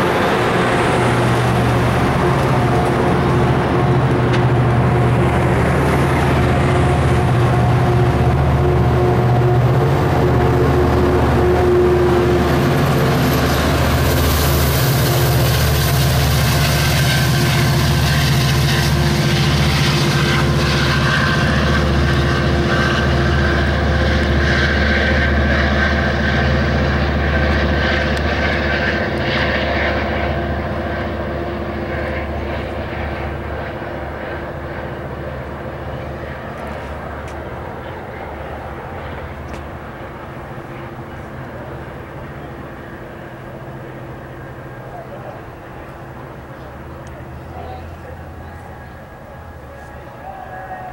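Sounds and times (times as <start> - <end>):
diesel locomotive engine droning: 0.0 - 50.9
wheel and rail noise: 0.0 - 50.9.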